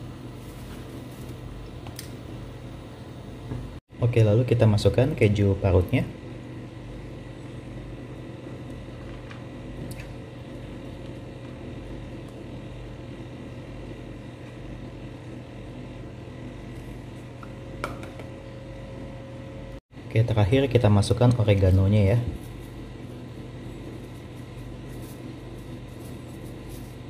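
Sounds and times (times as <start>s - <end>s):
appliance hum: 0.0s - 27.0s.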